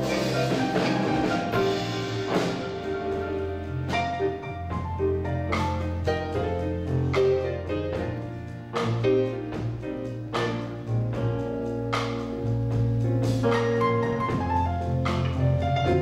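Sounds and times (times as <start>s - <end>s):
blues band playing: 0.0s - 16.0s
drums: 0.0s - 16.0s
electric bass line: 0.0s - 16.0s
piano chords: 0.0s - 16.0s.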